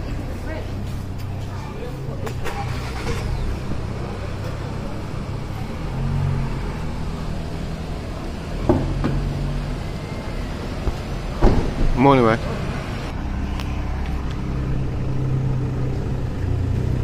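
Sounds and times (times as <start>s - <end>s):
car engine running: 0.0s - 17.0s
street traffic: 0.0s - 17.0s.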